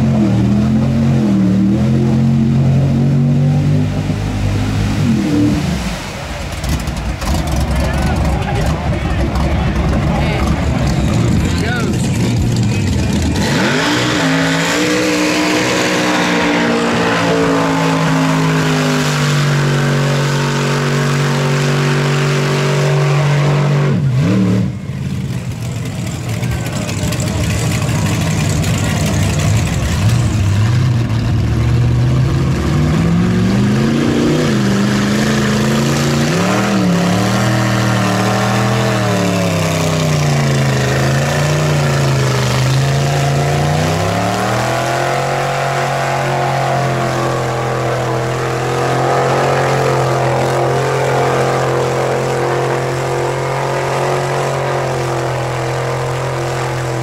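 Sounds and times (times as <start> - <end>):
tires churning through mud: 0.0 - 57.0
truck engine revving: 0.0 - 57.0.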